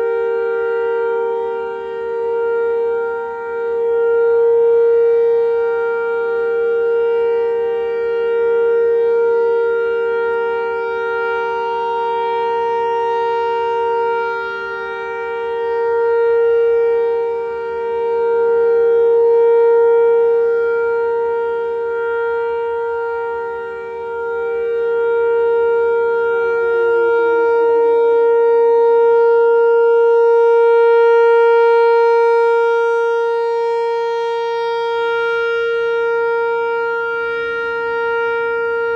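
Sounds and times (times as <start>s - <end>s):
lower siren tone sliding down: 0.0s - 38.9s
rotating warning siren: 0.0s - 38.9s.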